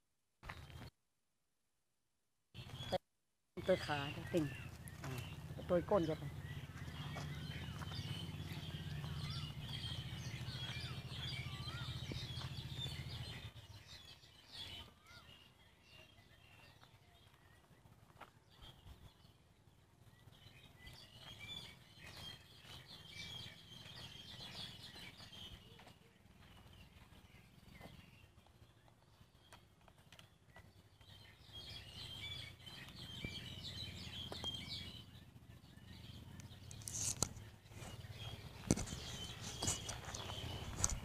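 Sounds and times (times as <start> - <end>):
faint birdsong chirps: 2.5 - 3.0, 3.6 - 41.0.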